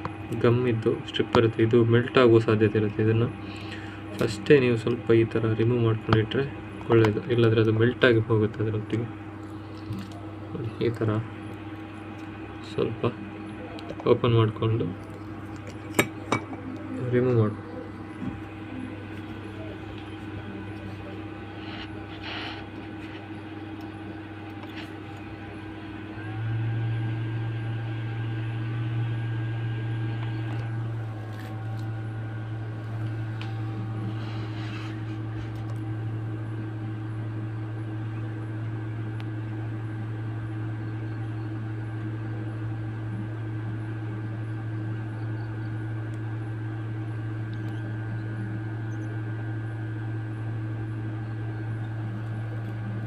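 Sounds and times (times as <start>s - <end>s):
hot air blower humming: 0.0s - 53.0s.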